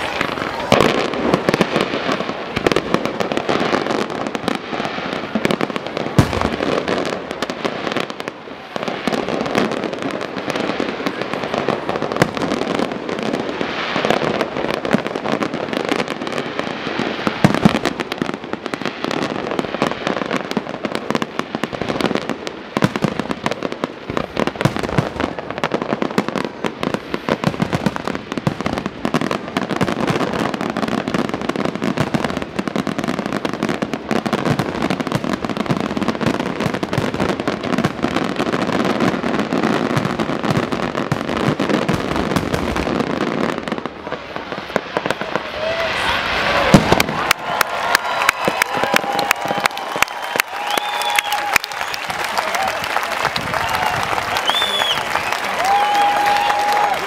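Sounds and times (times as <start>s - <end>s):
fireworks launching and bursting: 0.0s - 57.0s.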